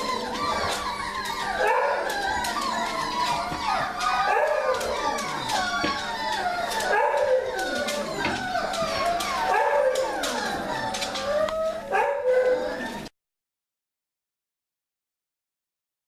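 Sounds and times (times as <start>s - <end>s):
puppies whining and howling: 0.0s - 13.1s.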